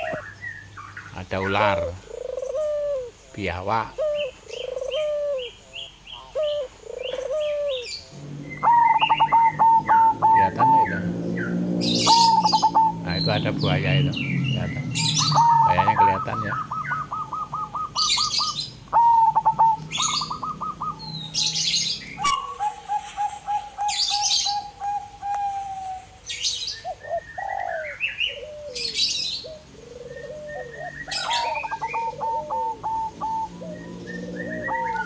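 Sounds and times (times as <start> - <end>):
bird calls with lower notes: 0.0 - 35.0
birds chirping: 0.0 - 35.0.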